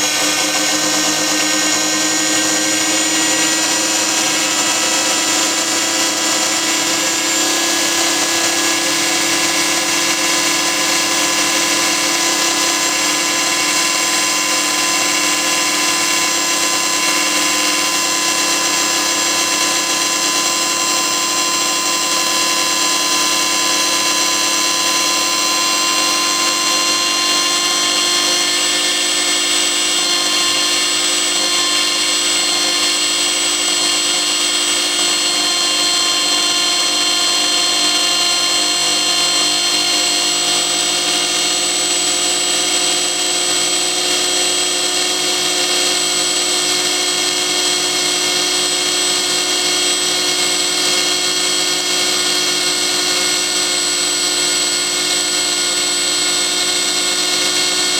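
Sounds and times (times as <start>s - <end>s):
electric motor high-pitched whine: 0.0s - 57.9s.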